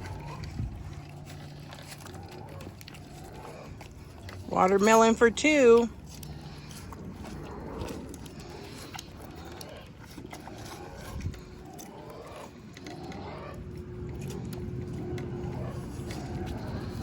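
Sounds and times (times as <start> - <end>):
animals chewing watermelon: 0.0 - 17.0.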